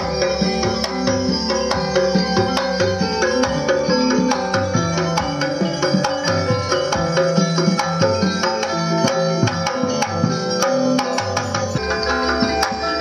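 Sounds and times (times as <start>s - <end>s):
plucked string notes: 0.0s - 13.0s.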